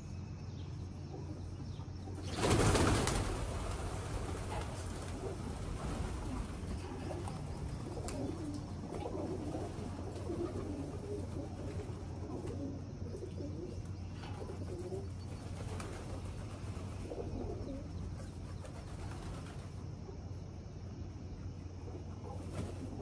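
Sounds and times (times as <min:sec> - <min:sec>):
steady low hum: 0:00.0 - 0:23.0
pigeons cooing: 0:01.0 - 0:20.2.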